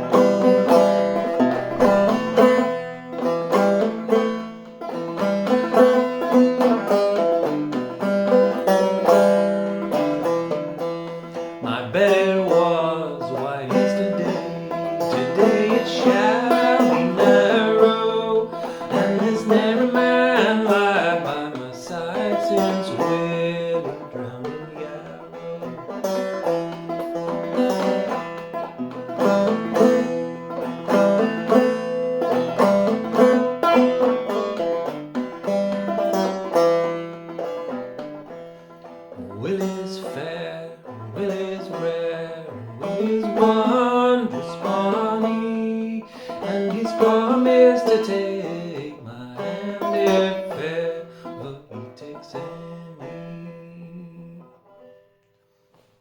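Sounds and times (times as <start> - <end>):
banjo plucking minor-key melody: 0.0 - 55.8.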